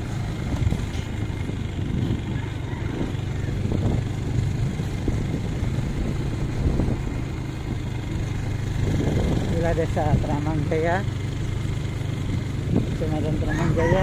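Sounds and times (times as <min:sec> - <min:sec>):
wind noise: 0:00.0 - 0:10.6, 0:12.6 - 0:14.0
road noise: 0:00.0 - 0:14.0
vehicle engine running: 0:00.0 - 0:14.0.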